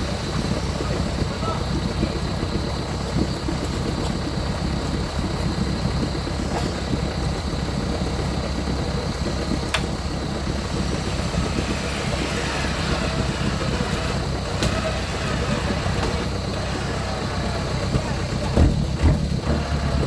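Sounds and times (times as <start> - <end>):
vehicle engine running at low revs: 0.0 - 20.0.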